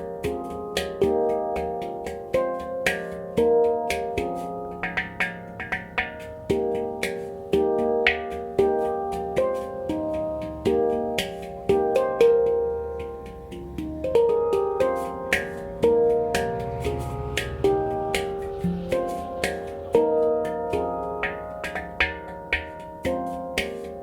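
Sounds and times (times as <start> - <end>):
handpan notes ringing: 0.0 - 24.0.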